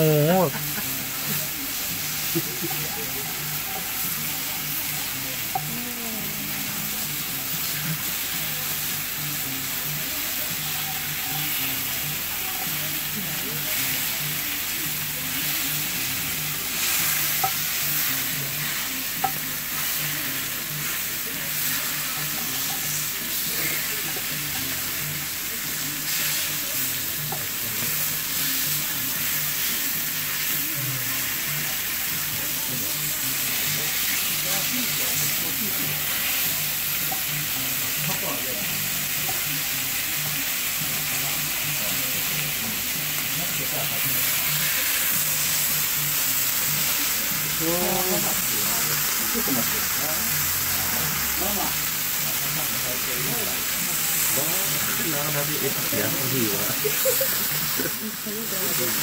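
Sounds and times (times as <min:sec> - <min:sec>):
steak sizzling on hot plate: 0:00.0 - 0:59.0.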